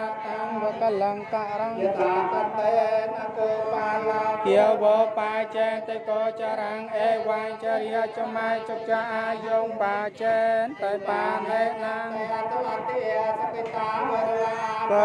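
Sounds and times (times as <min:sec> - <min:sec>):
voices chanting together: 0:00.0 - 0:15.0.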